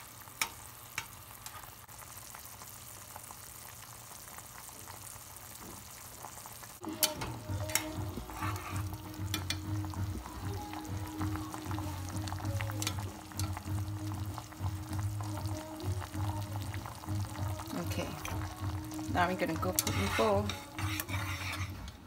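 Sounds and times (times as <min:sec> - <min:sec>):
water bubbling in saucepan: 0:00.0 - 0:22.0.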